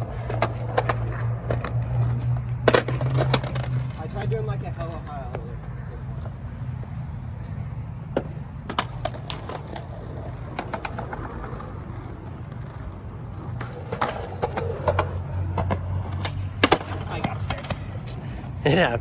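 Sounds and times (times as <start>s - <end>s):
skateboards clacking and landing: 0.0s - 5.6s, 8.1s - 19.0s
skateboard wheels rolling: 0.0s - 19.0s.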